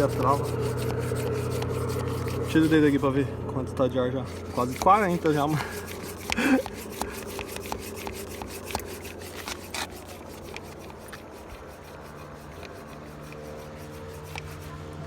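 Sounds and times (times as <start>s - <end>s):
hand pump strokes rubbing and clicking: 0.0s - 15.0s.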